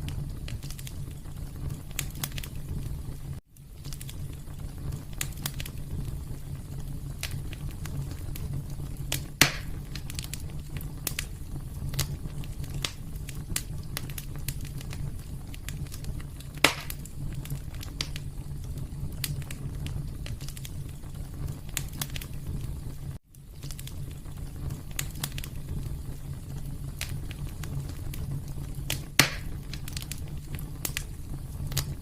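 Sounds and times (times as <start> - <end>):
fireplace fire crackling: 0.0 - 32.0
loud fire pops: 0.0 - 32.0.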